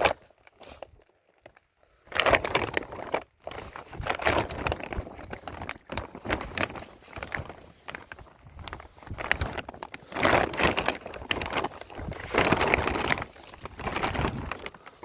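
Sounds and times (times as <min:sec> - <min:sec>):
plastic sheeting crinkling: 0:00.0 - 0:15.0.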